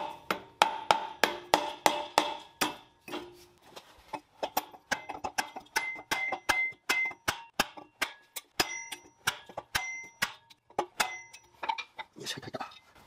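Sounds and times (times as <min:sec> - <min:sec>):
sharp taps on metal ringing: 0:00.0 - 0:03.3, 0:04.5 - 0:11.8.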